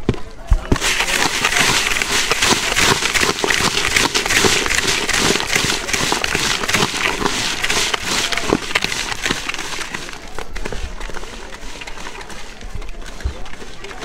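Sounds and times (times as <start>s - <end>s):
puffed rice rustling in plastic bucket: 0.6s - 14.0s.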